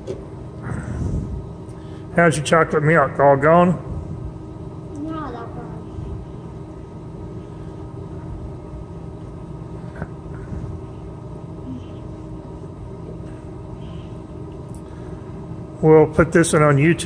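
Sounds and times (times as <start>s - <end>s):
low room rumble and hum: 0.0s - 17.0s.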